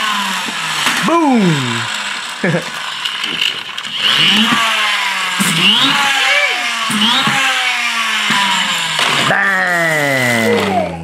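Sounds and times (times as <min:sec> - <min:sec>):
toy flywheel whirring: 0:00.0 - 0:11.0.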